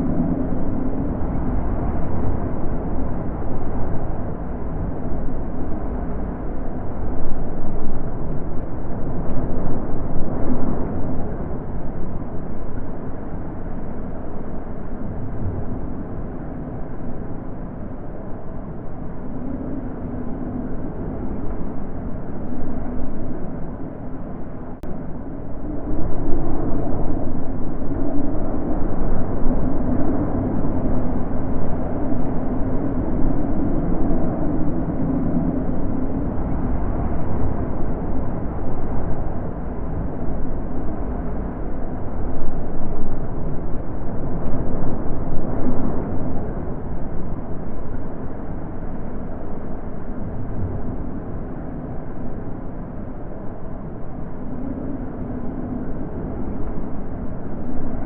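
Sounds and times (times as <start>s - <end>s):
wind blowing in gusts: 0.0s - 58.0s.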